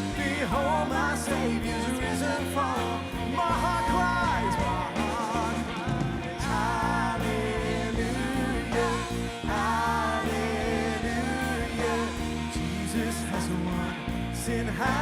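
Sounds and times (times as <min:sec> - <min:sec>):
band with drums and bass: 0:00.0 - 0:15.0
singers holding long notes: 0:00.0 - 0:15.0.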